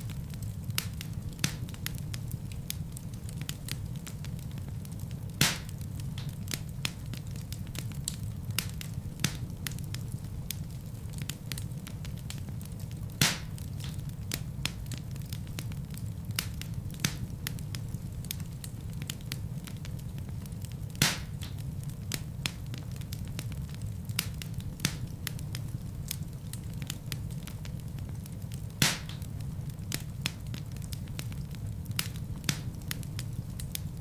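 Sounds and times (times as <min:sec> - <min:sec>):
fire pops: 0:00.0 - 0:34.0
wood fire crackling: 0:00.0 - 0:34.0.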